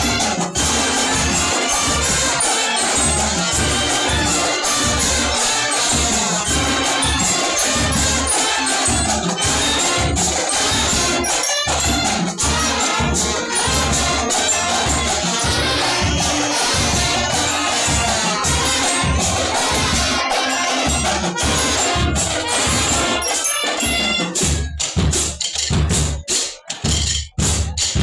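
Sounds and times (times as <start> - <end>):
brass and saxophones: 0.0 - 24.8
jingling percussion: 0.0 - 28.0
steady drum beat: 0.0 - 28.0.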